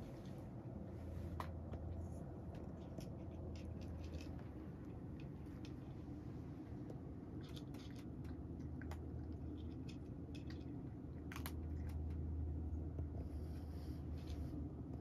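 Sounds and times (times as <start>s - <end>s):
low steady hum: 0.0s - 15.0s
cat crunching dry kibble: 1.1s - 15.0s.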